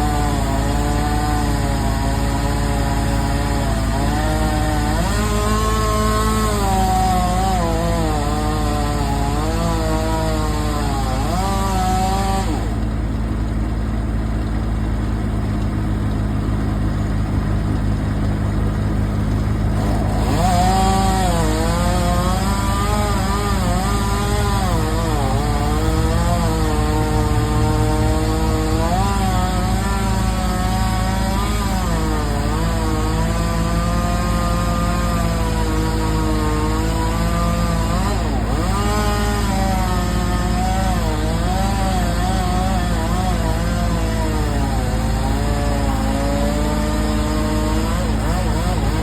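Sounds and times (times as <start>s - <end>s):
chainsaw cutting wood: 0.0s - 49.0s
low engine drone: 0.0s - 49.0s.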